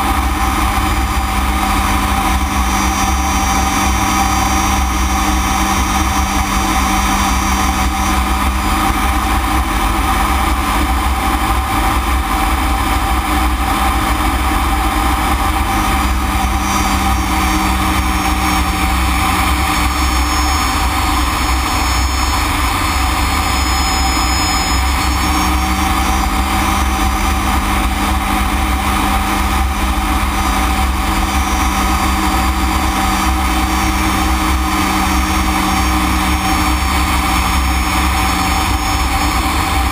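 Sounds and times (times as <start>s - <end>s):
air noise: 0.0s - 39.9s
high-pitched engine whine: 0.0s - 39.9s
jet engine drone in cockpit: 0.0s - 39.9s.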